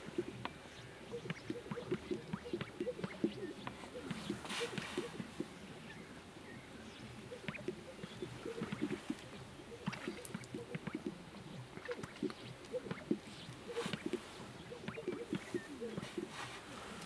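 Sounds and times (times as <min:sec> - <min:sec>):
grouse low pops: 0:00.0 - 0:05.6, 0:07.1 - 0:16.5
grouse sharp clicks: 0:00.0 - 0:17.0.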